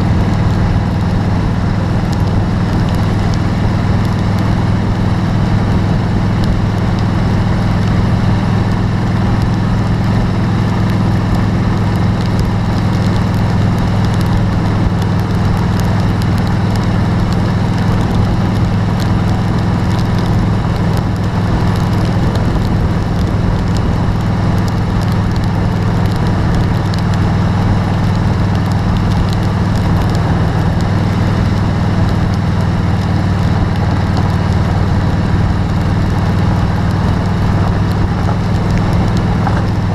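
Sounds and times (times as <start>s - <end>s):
vehicle engine low hum: 0.0s - 39.9s
rain striking a vehicle: 0.1s - 39.9s.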